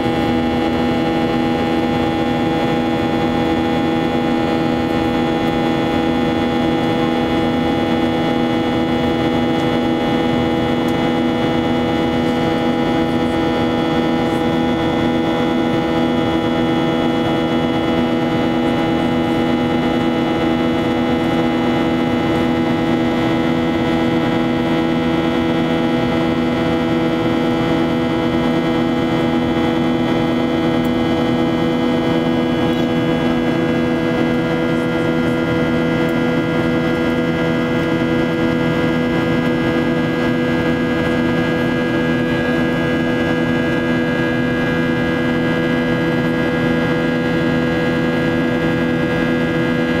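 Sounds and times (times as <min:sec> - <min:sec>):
jet engine drone in cabin: 0:00.0 - 0:50.0
steady hum tones: 0:00.0 - 0:50.0.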